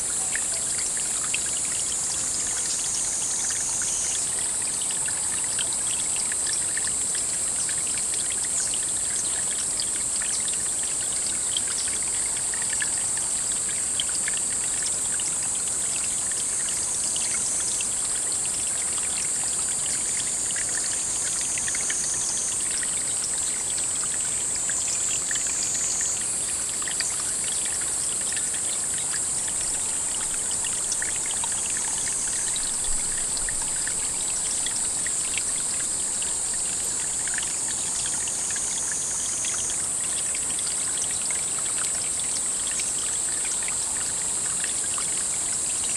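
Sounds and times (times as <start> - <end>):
water trickling into a pond: 0.0 - 45.9.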